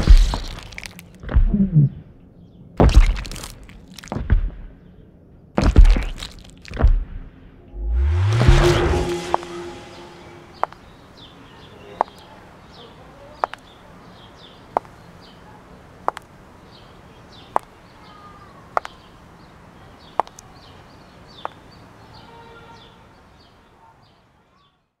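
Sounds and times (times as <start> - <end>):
steady outdoor background: 0.0 - 24.9.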